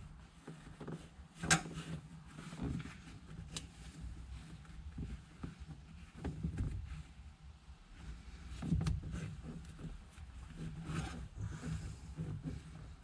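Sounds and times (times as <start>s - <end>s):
hands rubbing cloth upholstery: 0.0s - 13.0s.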